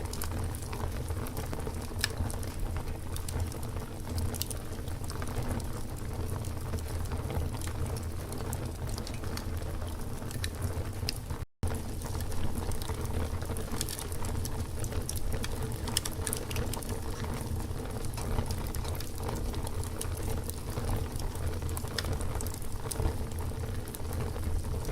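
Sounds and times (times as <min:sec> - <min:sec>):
campfire rumble and hiss: 0:00.0 - 0:24.9
fire crackles and pops: 0:00.0 - 0:24.9.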